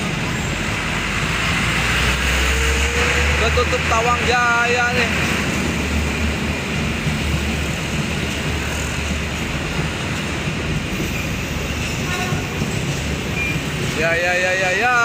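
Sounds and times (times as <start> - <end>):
passenger train rumbling on track: 0.0 - 15.0.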